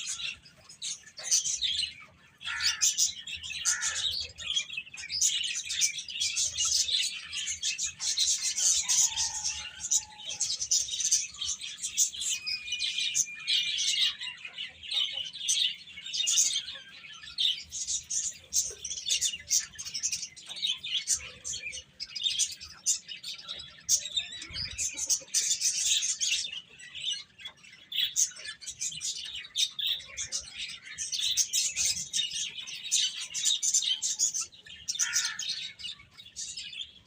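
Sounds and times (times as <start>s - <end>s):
baby chicks peeping: 0.0s - 37.0s.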